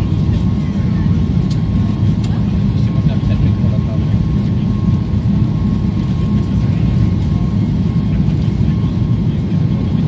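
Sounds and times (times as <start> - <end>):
jet engine low rumble and whine: 0.0 - 10.0.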